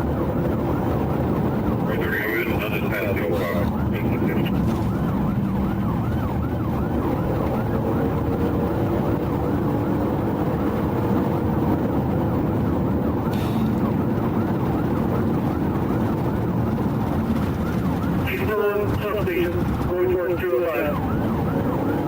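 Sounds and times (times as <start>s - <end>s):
car engine and road rumble: 0.0s - 22.0s
police siren on fast yelp: 0.0s - 22.0s.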